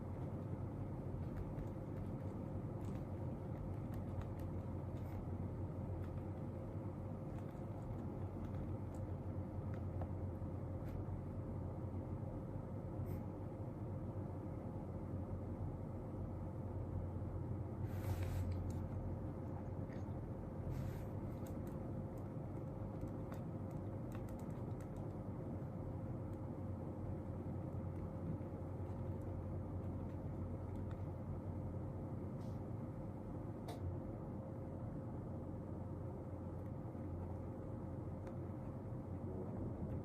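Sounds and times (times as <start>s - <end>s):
room tone hum: 0.0s - 40.0s.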